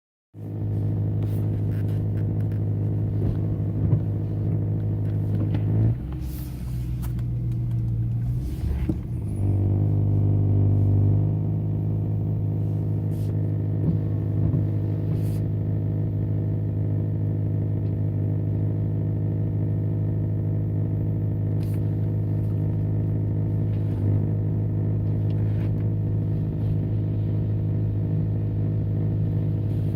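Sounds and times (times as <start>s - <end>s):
car engine buzzing hum: 0.4s - 29.9s.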